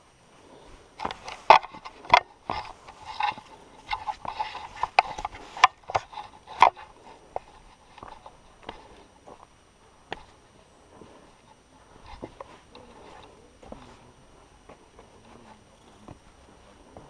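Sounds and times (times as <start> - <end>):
boots on stone footsteps: 0.3 - 17.0.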